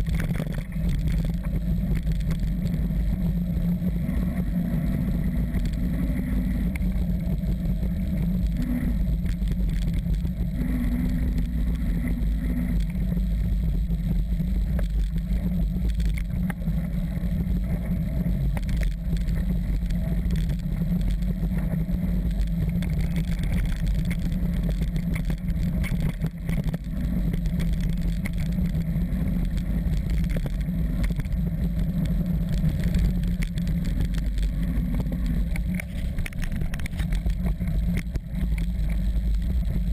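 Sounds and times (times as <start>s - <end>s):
bike tyres crunching on dirt: 0.0s - 39.9s
wind rumble on microphone: 0.0s - 39.9s.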